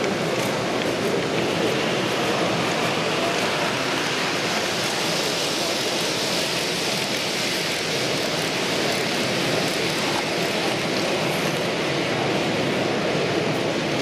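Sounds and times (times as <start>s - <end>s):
model train wheels rattling on track: 0.0s - 12.2s.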